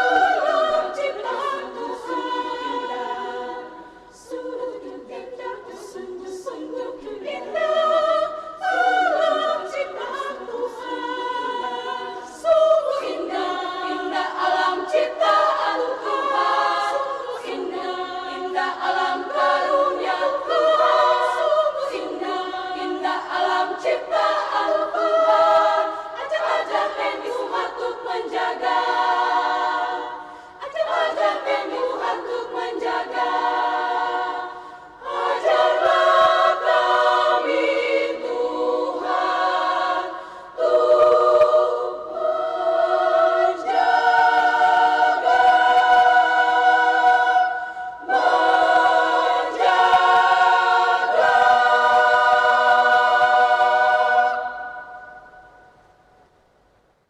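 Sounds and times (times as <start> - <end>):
women's choir singing a cappella: 0.0 - 57.0.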